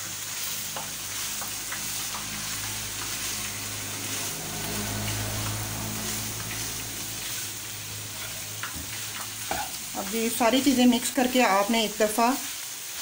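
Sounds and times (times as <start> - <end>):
food sizzling in a wok: 0.0 - 13.0
spatula scraping wok: 0.0 - 13.0.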